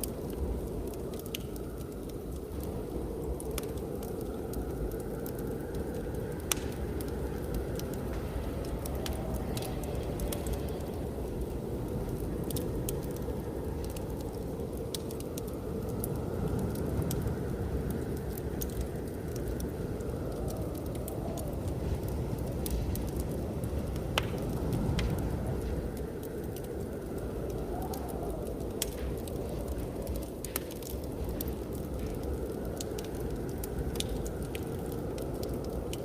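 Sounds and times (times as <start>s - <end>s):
whistling blizzard wind: 0.0s - 36.0s
wood fire crackling and popping: 0.0s - 36.0s.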